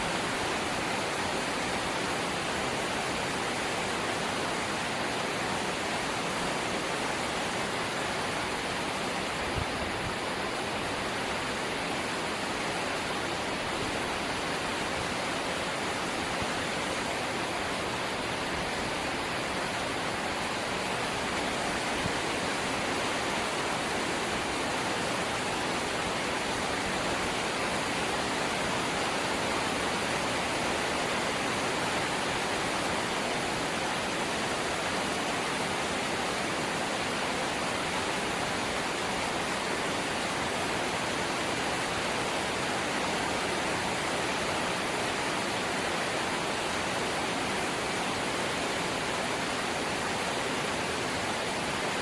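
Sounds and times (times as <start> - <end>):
light rain falling: 0.0 - 52.0.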